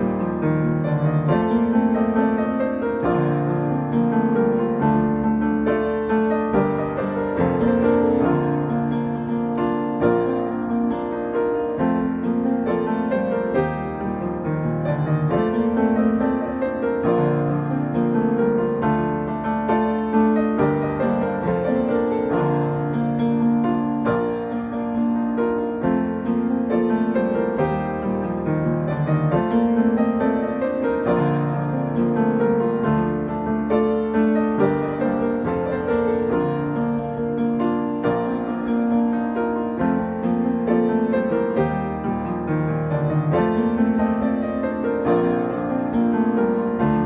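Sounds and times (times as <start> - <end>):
solo piano: 0.0 - 47.0.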